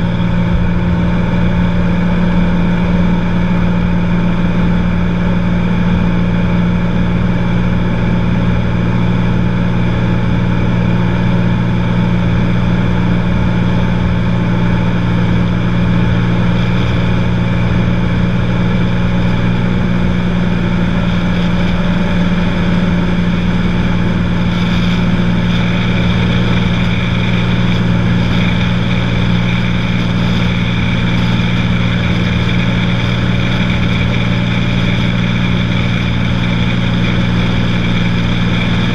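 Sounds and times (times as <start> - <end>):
small plane engine droning: 0.0 - 38.9.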